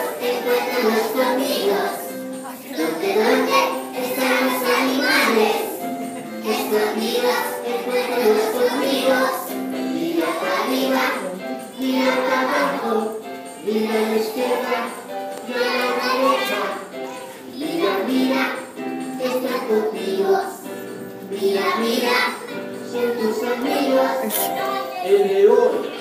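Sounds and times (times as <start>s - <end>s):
children singing in unison: 0.0s - 26.0s.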